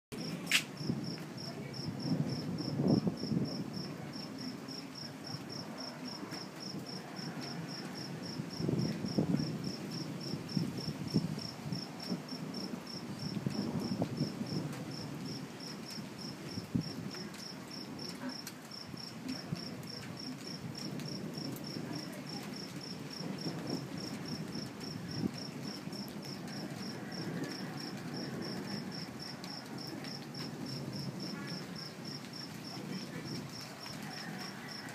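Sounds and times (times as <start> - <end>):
distant thunder rumble: 0.1 - 34.9
cricket chirping: 0.2 - 19.7, 22.6 - 34.9.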